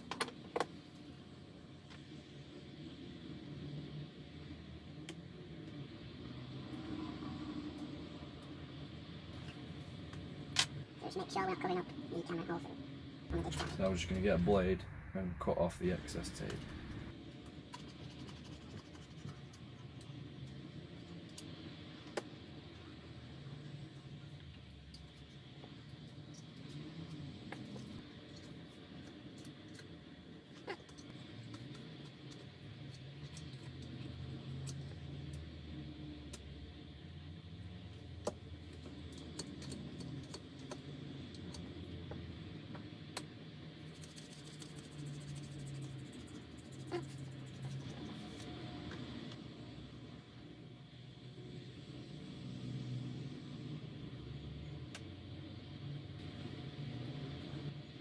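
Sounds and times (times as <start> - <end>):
low hum: 0.8 - 58.0.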